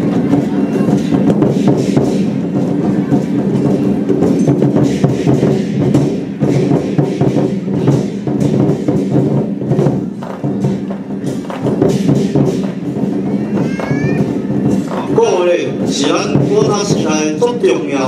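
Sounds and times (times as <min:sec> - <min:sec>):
fast drum and percussion beats: 0:00.0 - 0:18.0.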